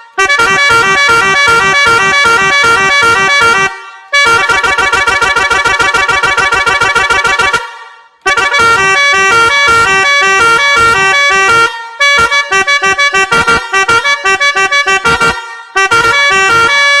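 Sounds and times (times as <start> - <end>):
multi-tone horn playing tune: 0.0 - 17.0.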